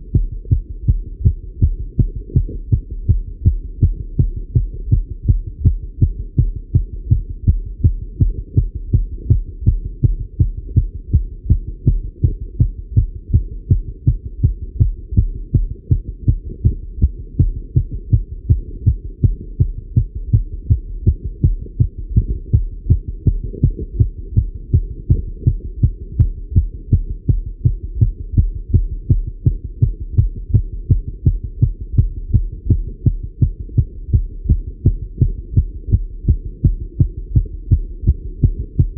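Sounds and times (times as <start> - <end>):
constant low hum: 0.0 - 38.9
heart beating fast: 0.0 - 38.9.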